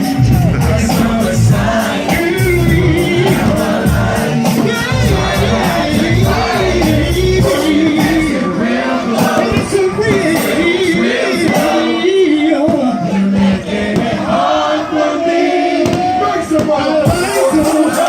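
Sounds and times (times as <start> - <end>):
live concert music: 0.0 - 14.2, 16.7 - 18.0
crowd: 0.0 - 18.0
voices singing: 0.0 - 18.0.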